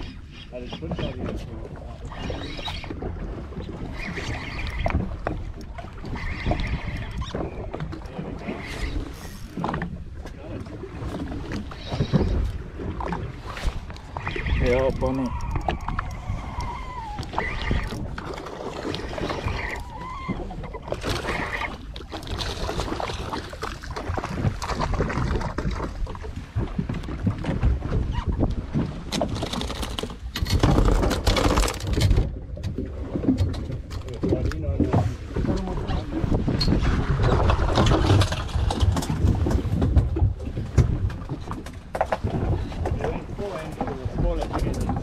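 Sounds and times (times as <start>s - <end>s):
boat engine: 0.0s - 45.0s
knocks and clatter on hull: 0.0s - 45.0s
wind and water rumble: 0.0s - 45.0s.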